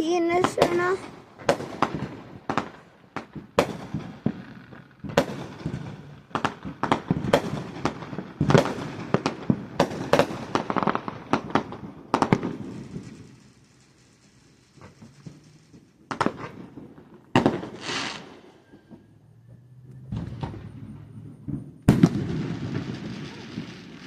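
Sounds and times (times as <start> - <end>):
fireworks bangs and pops: 0.0 - 19.1, 20.1 - 24.0
fireworks crackle: 0.0 - 19.1, 20.1 - 24.0.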